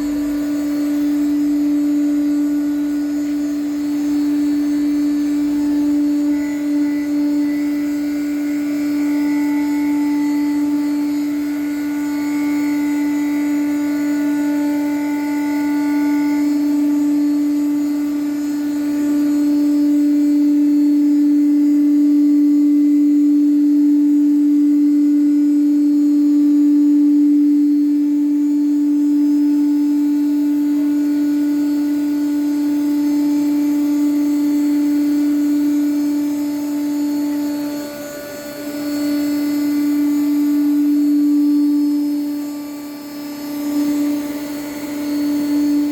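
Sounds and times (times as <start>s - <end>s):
wood router humming: 0.0s - 45.9s.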